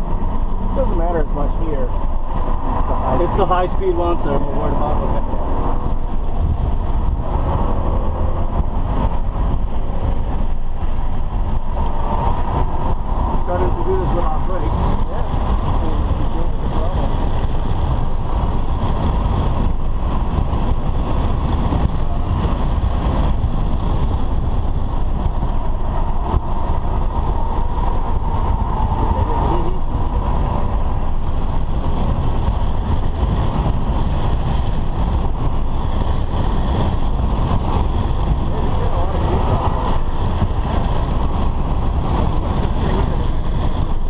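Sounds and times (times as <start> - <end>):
car engine from inside cabin: 0.0 - 44.0.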